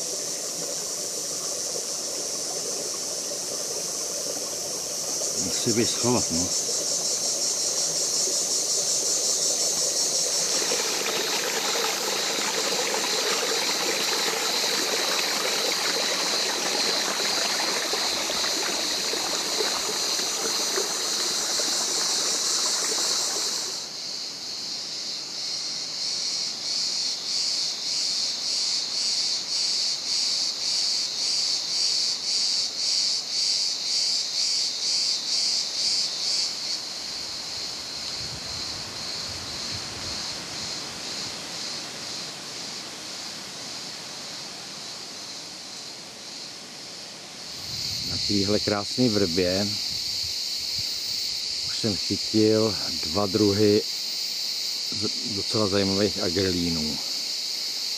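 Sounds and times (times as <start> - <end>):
stream running over stones: 0.0 - 24.6, 26.8 - 57.9
cicadas shrilling: 0.0 - 57.9.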